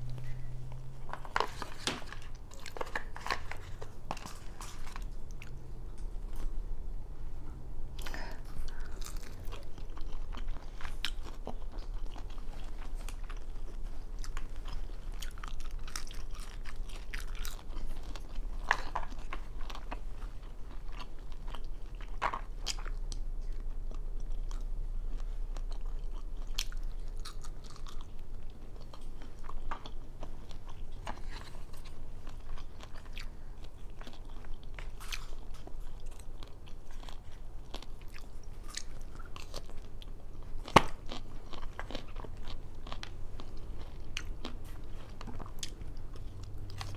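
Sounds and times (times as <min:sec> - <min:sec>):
person chewing crunchy food: 0:00.0 - 0:06.6, 0:08.0 - 0:46.9.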